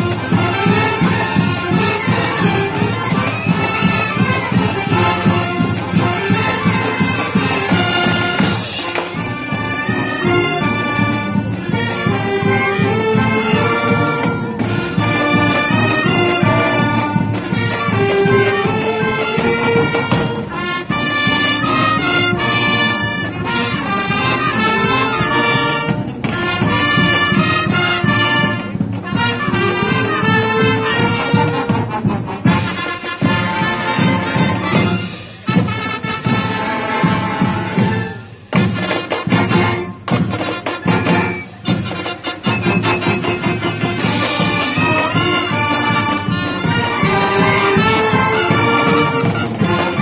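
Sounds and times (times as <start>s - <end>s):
marching band brass tune: 0.0s - 50.0s
steady drum beat: 0.0s - 50.0s.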